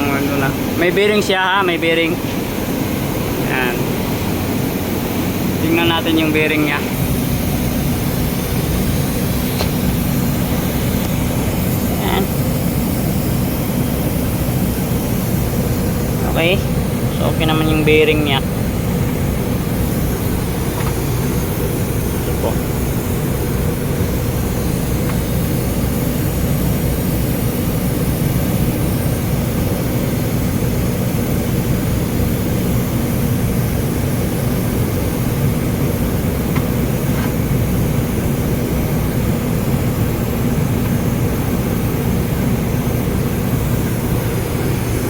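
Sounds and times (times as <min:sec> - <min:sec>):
low machine drone: 0:00.0 - 0:45.0.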